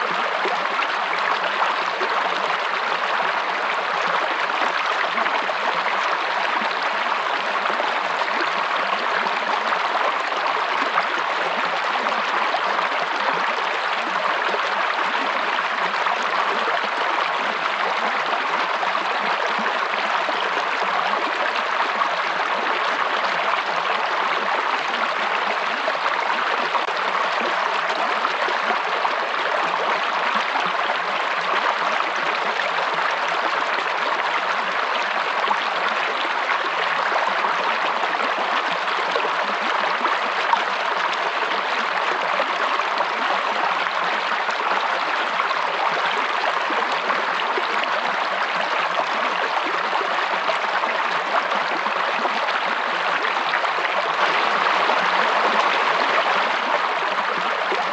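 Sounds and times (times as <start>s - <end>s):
stream running over rocks: 0.0s - 57.9s.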